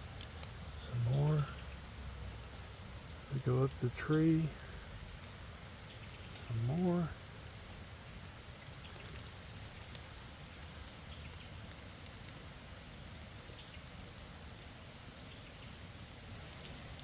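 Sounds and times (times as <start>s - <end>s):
creek water rushing: 0.0s - 17.0s
small ticks: 0.0s - 17.0s.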